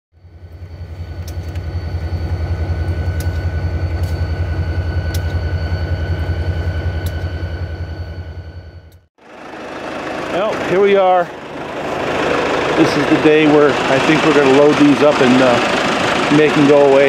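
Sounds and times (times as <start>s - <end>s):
diesel locomotive engine throbbing: 0.2s - 17.0s
faint steady whine: 0.2s - 17.0s.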